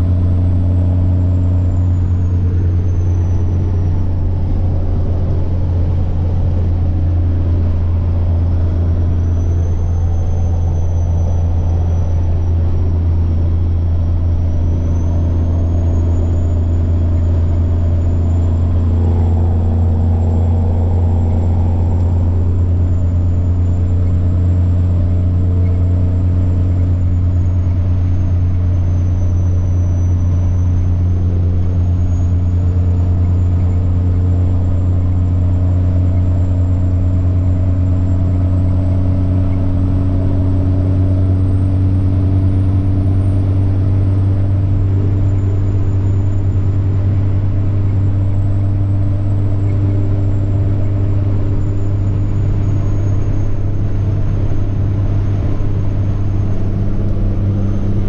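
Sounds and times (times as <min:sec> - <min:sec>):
diesel truck engine humming: 0:00.0 - 0:58.0
turbocharger whine: 0:00.0 - 0:58.0.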